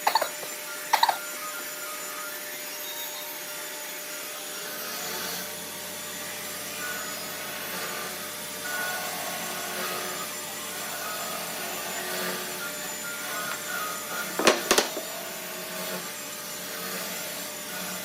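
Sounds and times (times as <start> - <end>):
power tool whirring on wood: 0.0 - 18.0.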